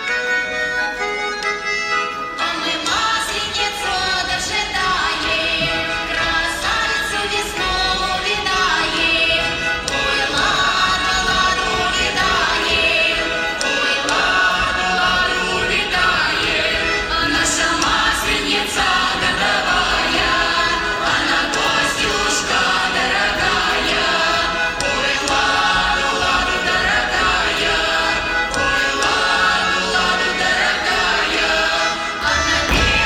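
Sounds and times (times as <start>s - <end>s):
choir singing with music: 0.0s - 33.0s.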